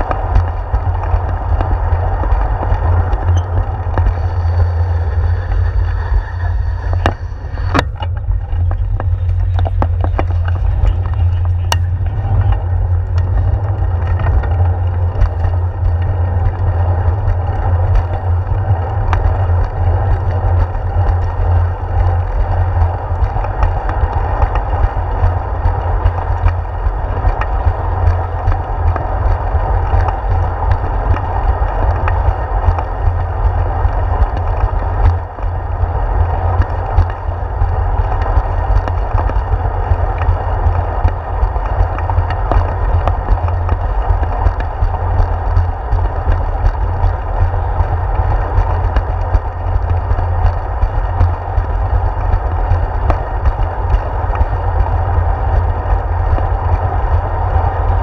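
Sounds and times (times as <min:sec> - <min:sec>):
bicycle tyre noise: 0:00.0 - 0:58.0
faint clicks over bumps: 0:00.0 - 0:58.0
wind rumble: 0:00.0 - 0:58.0.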